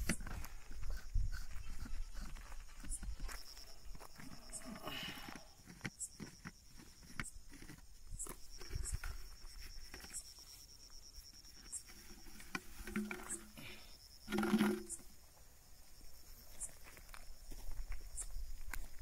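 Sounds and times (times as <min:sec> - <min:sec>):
high cricket trill: 0:00.0 - 0:19.0.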